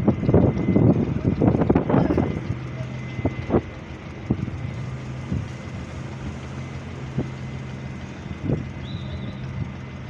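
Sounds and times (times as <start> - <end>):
large engine idling: 0.0 - 10.0.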